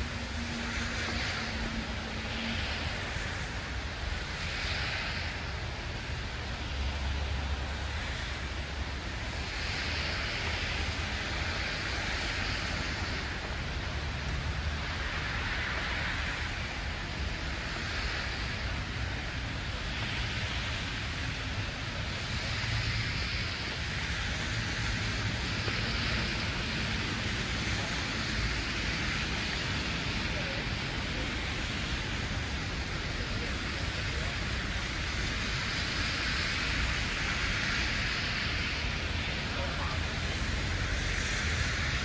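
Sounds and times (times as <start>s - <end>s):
steady hiss of wet street: 0.0s - 42.0s.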